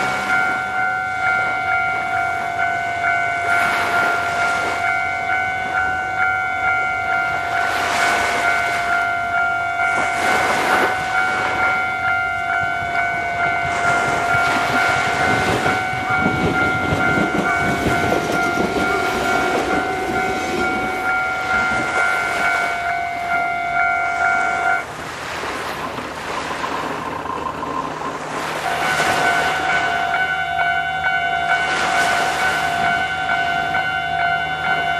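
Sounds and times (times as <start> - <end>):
level crossing warning bell: 0.0 - 25.5, 26.2 - 34.9
train rumble: 0.0 - 34.9.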